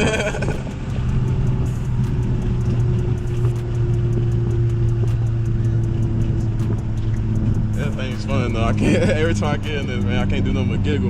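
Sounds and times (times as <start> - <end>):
car engine drone from cabin: 0.0 - 11.0.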